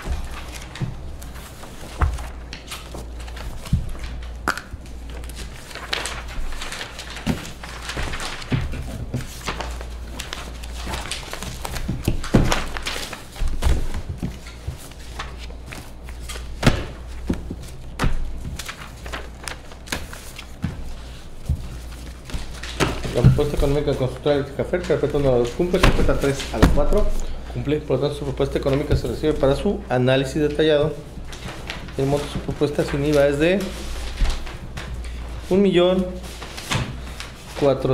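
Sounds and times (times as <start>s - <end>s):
pages rustling and flipping: 0.0s - 37.9s.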